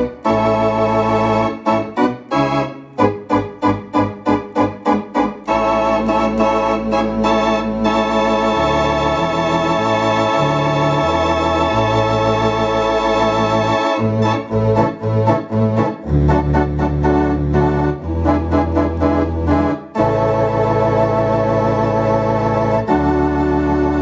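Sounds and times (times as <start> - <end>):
organ bass line: 0.0 - 24.0
organ chords with vibrato: 0.0 - 24.0
short detached organ chords: 0.0 - 24.0.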